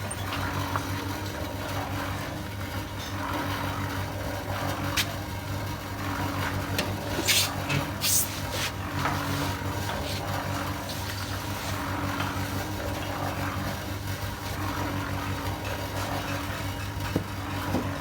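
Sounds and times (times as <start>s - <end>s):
concrete mixer engine humming: 0.0s - 18.0s.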